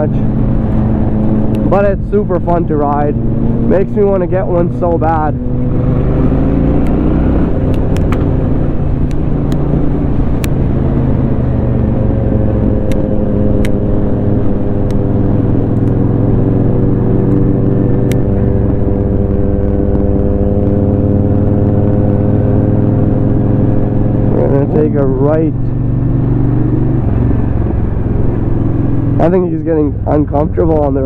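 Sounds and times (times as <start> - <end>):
motorcycle engine cruising: 0.0 - 31.0.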